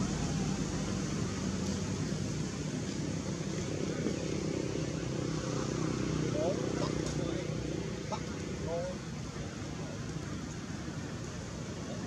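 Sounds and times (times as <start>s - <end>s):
distant motor vehicles rumble: 0.0s - 12.0s.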